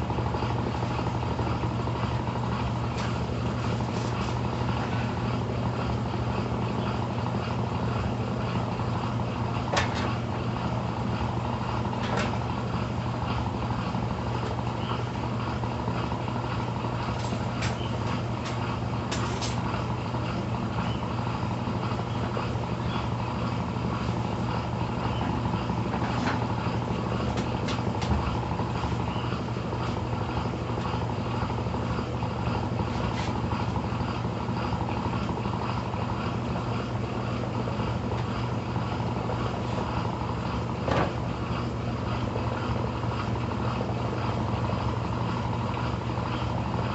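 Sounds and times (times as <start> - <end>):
washing machine spinning hum: 0.0 - 46.9.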